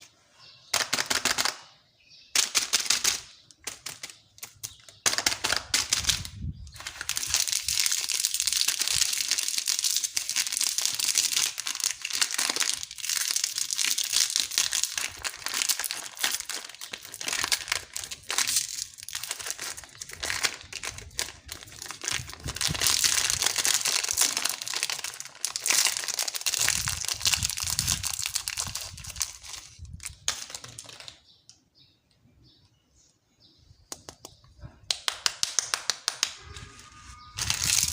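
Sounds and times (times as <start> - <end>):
candy wrappers crinkling and tearing: 2.4 - 31.3, 35.0 - 37.9.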